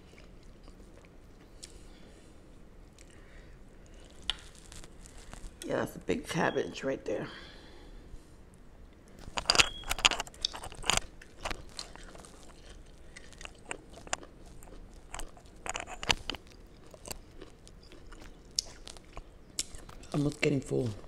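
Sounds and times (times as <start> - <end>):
person chewing crunchy food: 0.0 - 5.6, 9.1 - 21.0.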